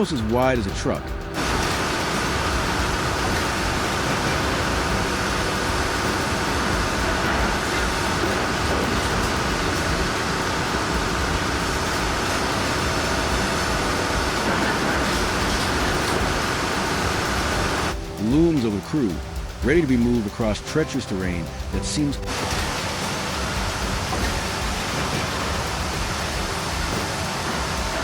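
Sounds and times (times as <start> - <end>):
heavy machinery running: 0.0 - 28.0.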